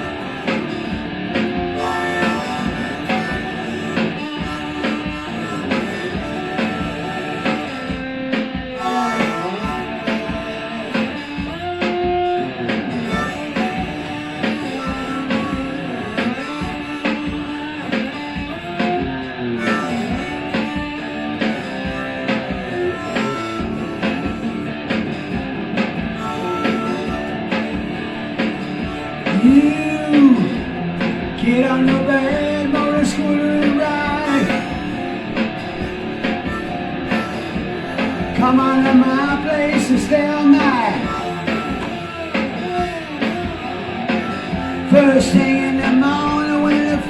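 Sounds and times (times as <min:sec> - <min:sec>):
lead guitar solo: 0:00.0 - 0:47.0
steady drum beat: 0:00.0 - 0:47.0.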